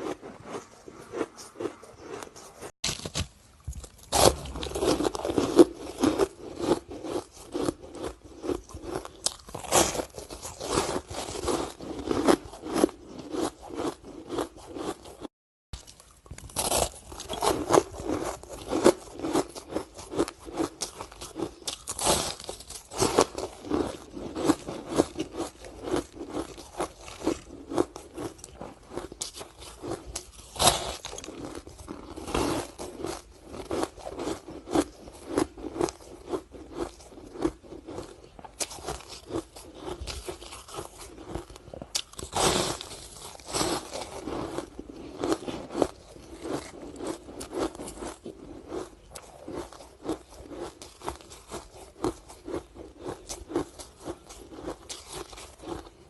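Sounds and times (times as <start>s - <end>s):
ice being crunched and chewed: 0.0s - 56.0s.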